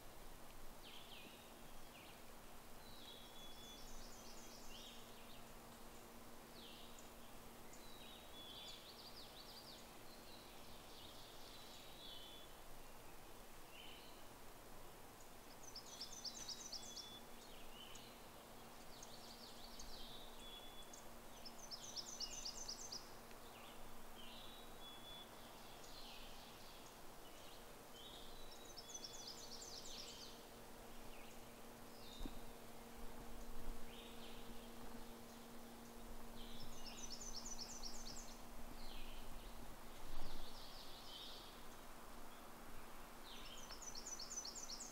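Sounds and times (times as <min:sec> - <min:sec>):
faint low hum: 0:00.0 - 0:44.9
songbirds singing: 0:00.0 - 0:44.9.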